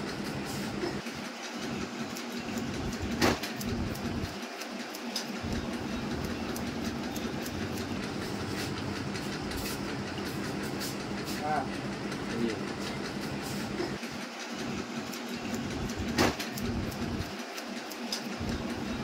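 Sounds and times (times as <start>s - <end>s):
steady hum: 0.0s - 4.5s, 5.3s - 17.4s.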